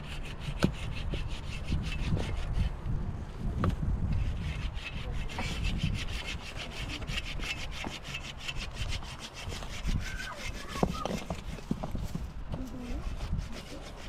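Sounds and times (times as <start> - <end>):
rhythmic rasping on wood: 0.0 - 2.7, 4.1 - 14.0.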